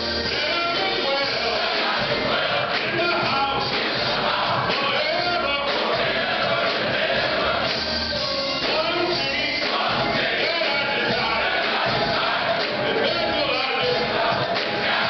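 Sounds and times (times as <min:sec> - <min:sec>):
men's chorus singing gospel: 0:00.0 - 0:15.0.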